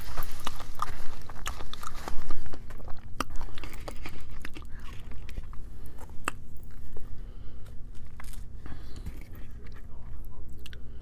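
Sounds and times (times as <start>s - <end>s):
person chewing strawberries: 0.0s - 11.0s.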